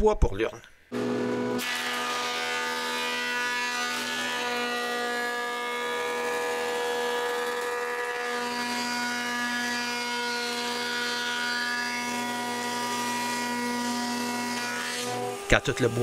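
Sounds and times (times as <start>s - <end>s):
jointer planer motor whine: 1.0s - 16.0s.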